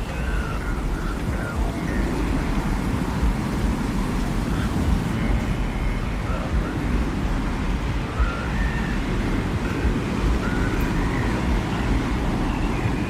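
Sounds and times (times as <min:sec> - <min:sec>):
faint wavering whistles: 0:00.0 - 0:13.0
low rumble of wind: 0:00.0 - 0:13.0.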